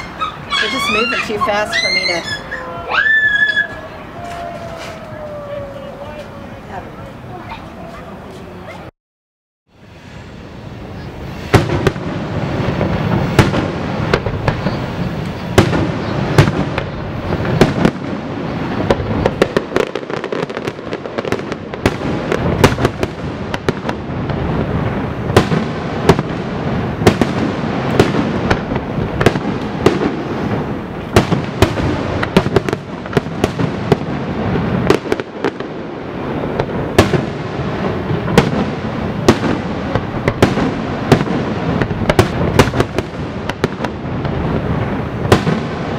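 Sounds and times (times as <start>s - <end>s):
fireworks bangs and crackling: 0.0s - 8.9s, 9.8s - 45.9s.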